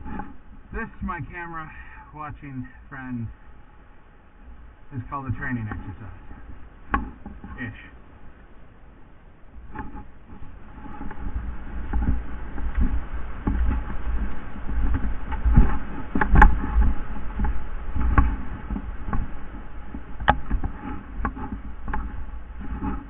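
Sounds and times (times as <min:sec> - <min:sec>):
low wind rumble on microphone: 0:00.0 - 0:23.0.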